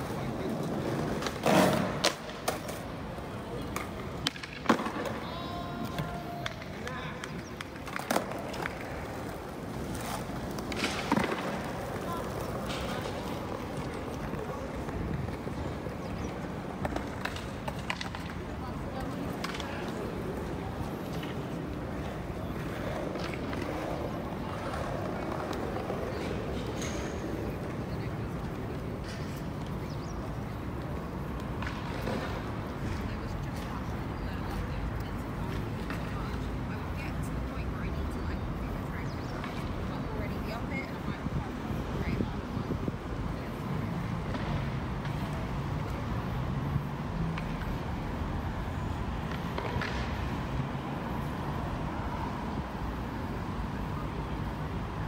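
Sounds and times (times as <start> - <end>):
outdoor street noise: 0.0 - 55.0
passers-by voices: 0.0 - 55.0.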